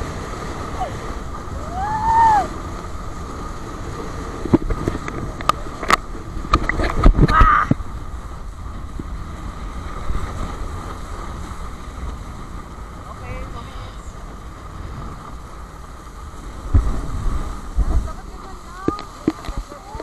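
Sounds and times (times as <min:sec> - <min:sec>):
water rushing past boat: 0:00.0 - 0:20.0
wind buffeting microphone: 0:00.0 - 0:20.0.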